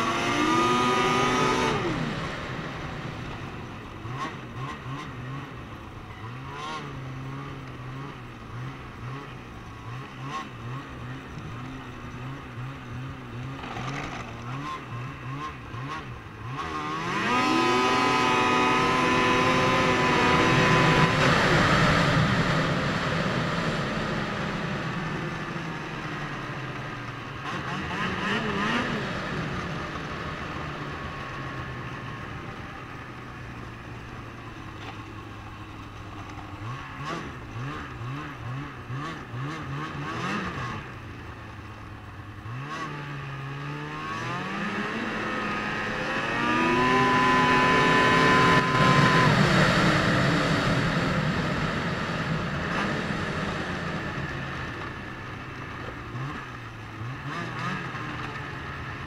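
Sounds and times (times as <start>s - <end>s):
snowmobile engine revving: 0.0s - 34.2s, 35.9s - 41.2s, 42.4s - 59.0s.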